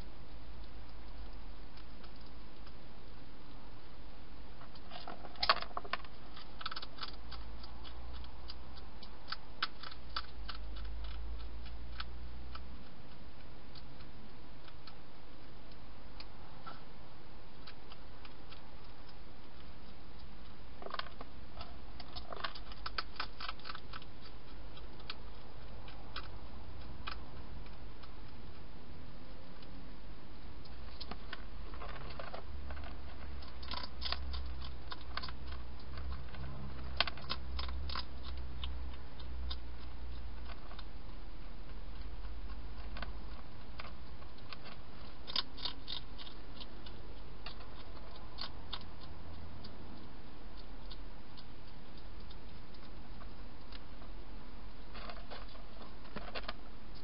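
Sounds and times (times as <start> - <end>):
hedgehog crunching dry food: 4.6 - 16.9, 17.5 - 29.8, 30.4 - 57.0.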